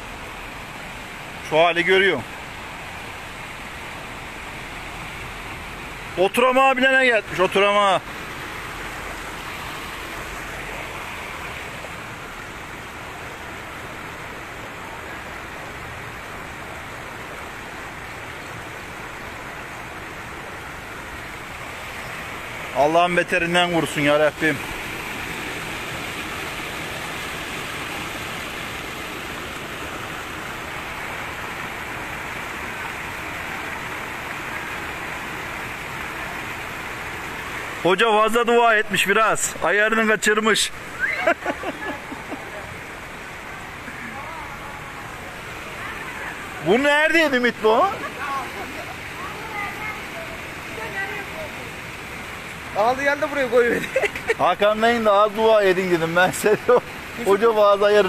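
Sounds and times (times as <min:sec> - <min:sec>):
floodwater rushing across street: 0:00.0 - 0:58.0.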